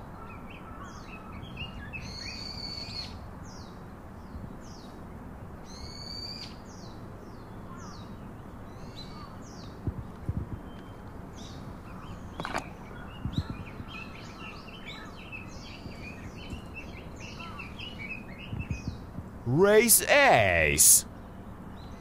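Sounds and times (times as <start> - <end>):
small birds singing: 0.0 - 19.3.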